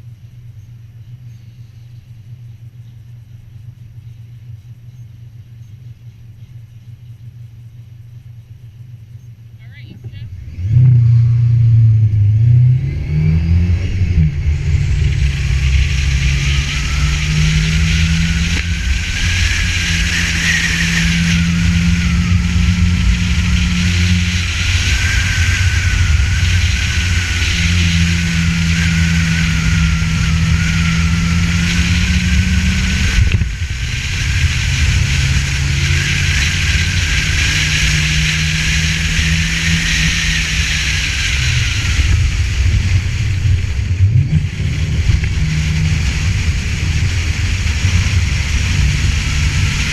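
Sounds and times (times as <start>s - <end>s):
car engine driven hard: 0.0s - 49.9s
high whine: 0.0s - 49.9s.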